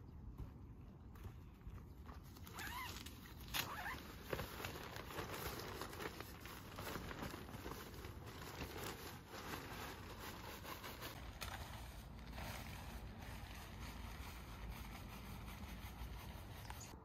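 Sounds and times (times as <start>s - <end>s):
tent fabric rustling: 1.8s - 17.0s.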